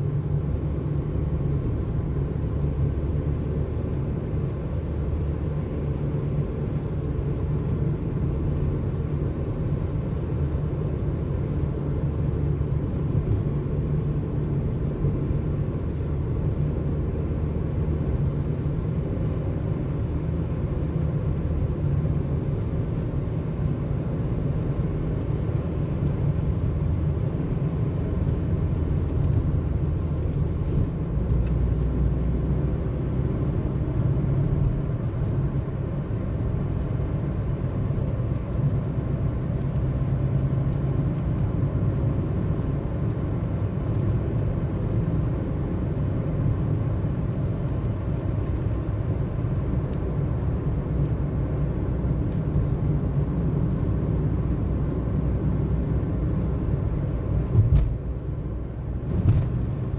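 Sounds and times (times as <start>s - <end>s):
car driving rumble inside cabin: 0.0s - 59.9s.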